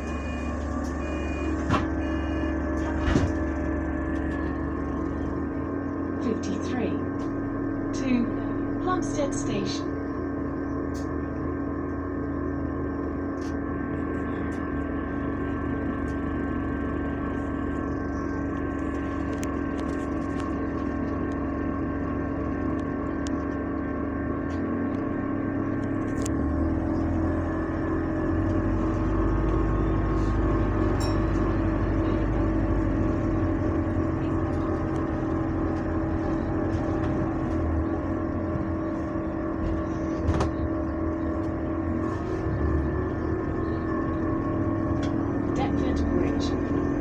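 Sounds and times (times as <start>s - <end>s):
bus engine rumble: 0.0s - 47.0s
droning hum inside bus: 0.0s - 47.0s.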